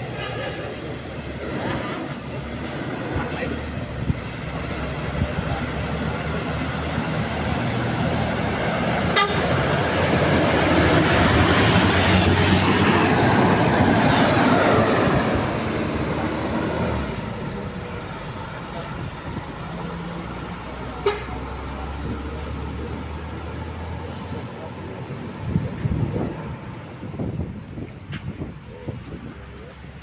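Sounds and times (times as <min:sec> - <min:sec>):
truck engine labouring uphill: 0:00.0 - 0:30.0.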